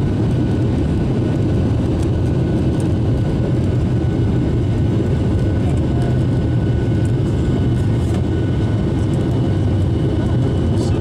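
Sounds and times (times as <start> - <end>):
jet engine rumble in cabin: 0.0 - 11.0.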